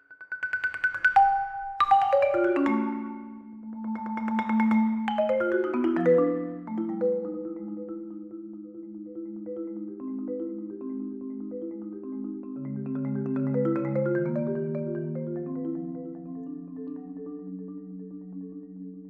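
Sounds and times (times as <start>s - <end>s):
marimba rolled notes: 0.4s - 19.0s.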